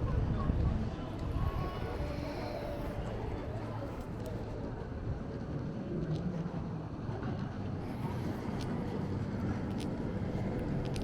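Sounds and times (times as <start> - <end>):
low hum of traffic: 0.0 - 11.0.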